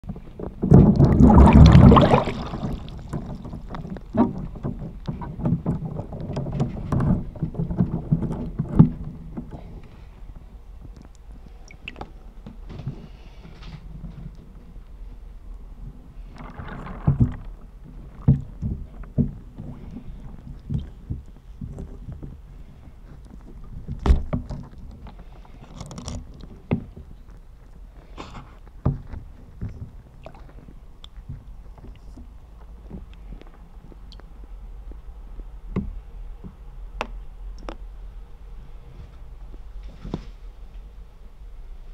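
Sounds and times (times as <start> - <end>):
underwater rustling and clicking: 0.0 - 37.9.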